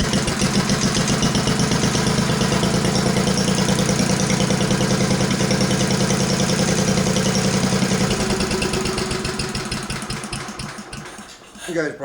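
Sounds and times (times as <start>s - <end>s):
single-cylinder engine running: 0.0s - 11.7s.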